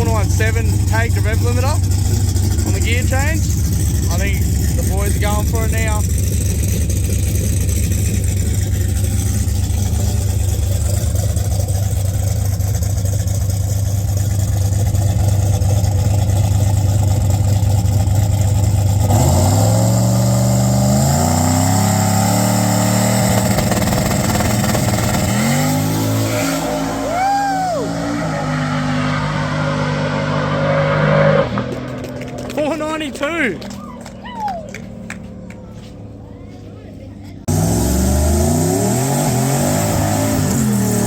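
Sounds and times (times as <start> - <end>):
drag car engine revving: 0.0 - 41.0.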